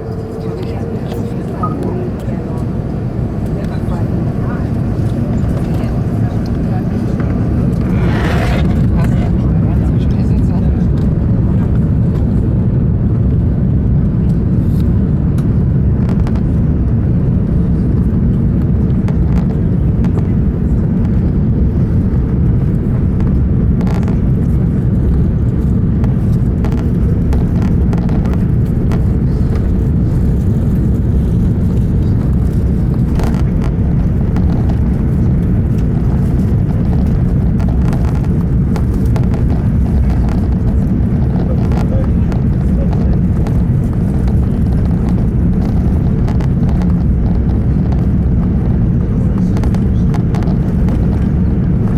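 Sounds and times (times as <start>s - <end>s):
jet engines low rumble: 0.0s - 51.9s.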